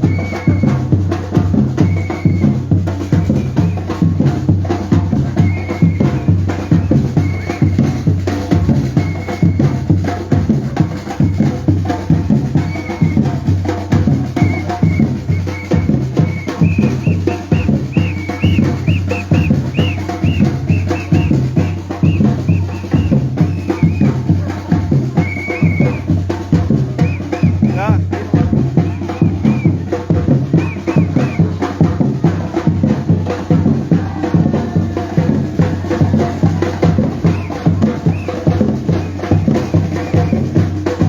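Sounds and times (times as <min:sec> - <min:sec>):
bass drums: 0:00.0 - 0:41.0
snare drums: 0:00.0 - 0:41.0.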